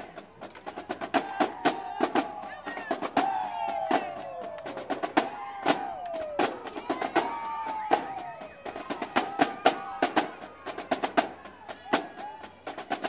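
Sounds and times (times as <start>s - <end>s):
snare and bass drums: 0.0s - 13.0s.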